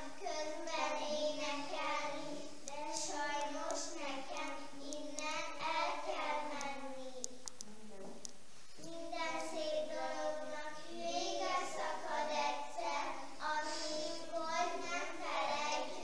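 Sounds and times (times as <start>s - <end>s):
young children singing: 0.0s - 7.4s, 8.8s - 16.0s.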